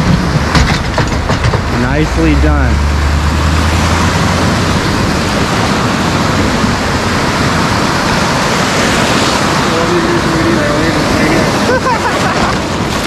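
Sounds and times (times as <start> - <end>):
low rumble: 0.0 - 12.0
ocean surf washing around legs: 0.0 - 13.0.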